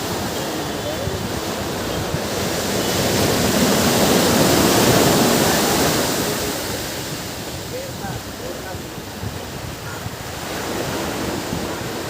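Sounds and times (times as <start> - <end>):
ocean surf on a beach: 0.0 - 12.0
wave breaking: 0.0 - 12.0.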